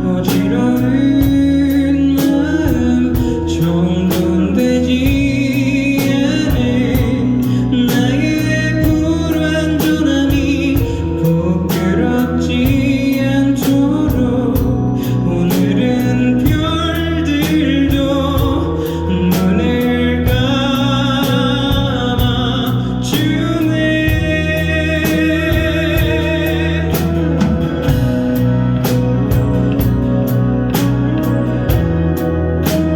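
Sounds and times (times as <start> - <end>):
live band playing: 0.0 - 32.9.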